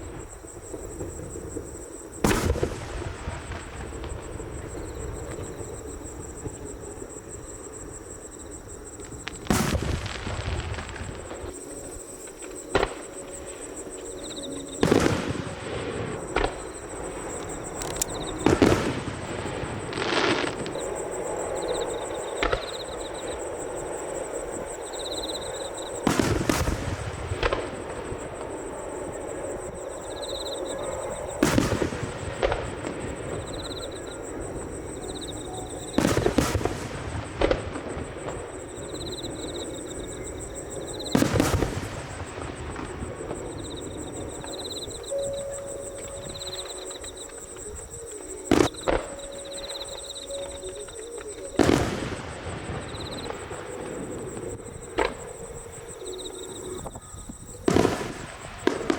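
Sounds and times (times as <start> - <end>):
fireworks booming with echo: 0.0 - 58.9.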